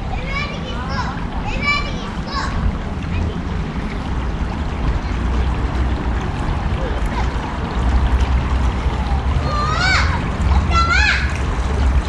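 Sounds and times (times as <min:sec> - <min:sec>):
water running in a stream: 0:00.0 - 0:12.0.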